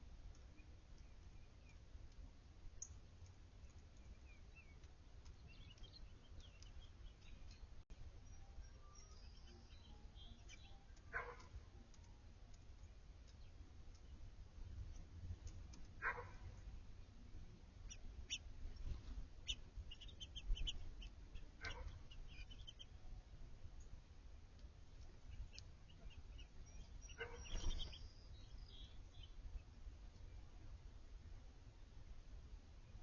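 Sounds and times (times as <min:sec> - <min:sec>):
low steady rumble: 0:00.0 - 0:33.0
songbirds chirping: 0:00.0 - 0:33.0.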